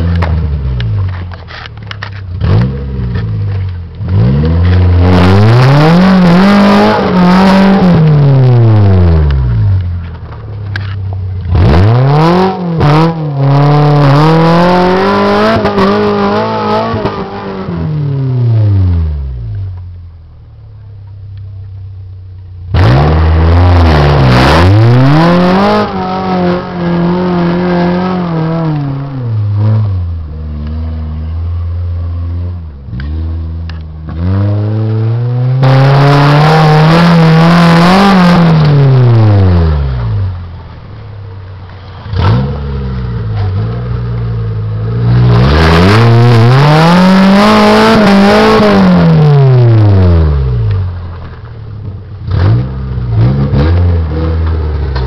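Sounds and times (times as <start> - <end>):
engine revving under load: 2.3 - 9.8, 10.8 - 19.6, 22.7 - 40.4, 41.9 - 51.4, 52.2 - 55.0.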